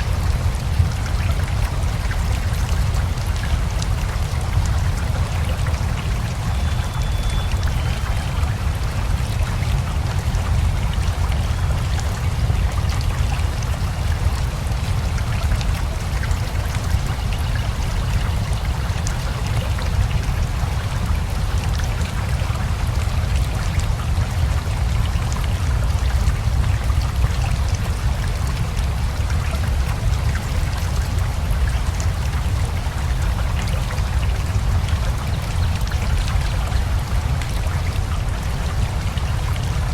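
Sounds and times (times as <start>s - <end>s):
rushing river: 0.0s - 39.9s
steady rain: 0.0s - 39.9s.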